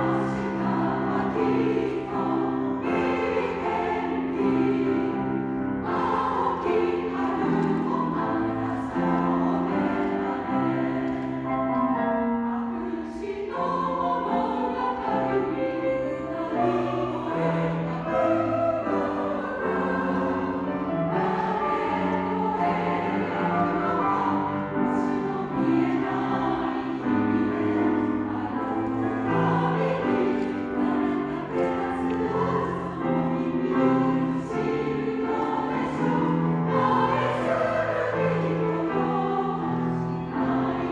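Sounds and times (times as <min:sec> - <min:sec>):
choir singing: 0:00.0 - 0:40.9
piano accompaniment: 0:00.0 - 0:40.9.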